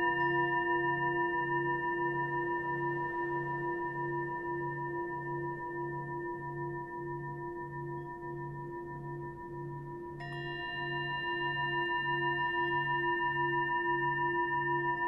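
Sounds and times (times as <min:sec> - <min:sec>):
sustained bell-like tones: 0:00.0 - 0:15.0.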